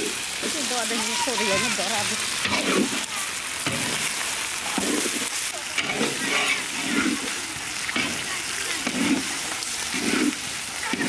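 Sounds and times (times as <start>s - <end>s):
fish sizzling in a wok: 0.0s - 11.0s
spatula scraping a wok: 1.6s - 11.0s.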